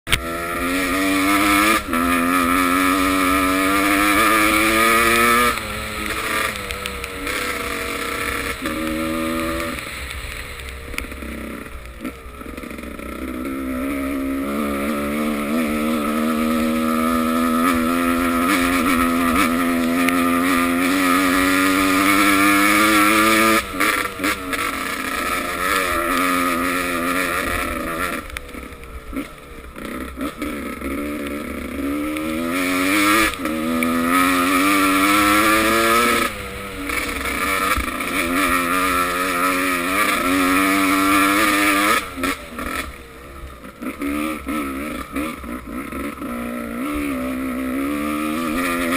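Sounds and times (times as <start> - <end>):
motorcycle engines revving: 0.1 - 48.9.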